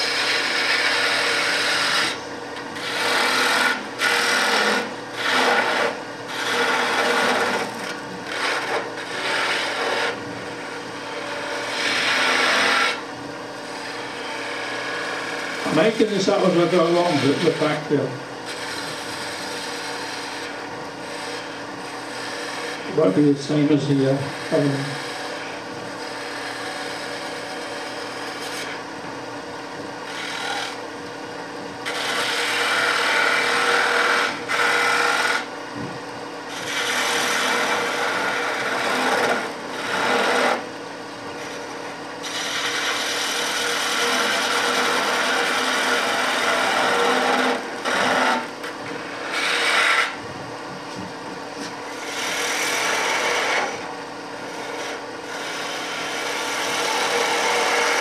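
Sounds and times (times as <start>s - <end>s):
turning tool scraping wood: 0.0s - 30.8s, 31.8s - 35.8s, 36.4s - 40.7s, 41.3s - 58.0s
wood lathe humming: 0.0s - 58.0s.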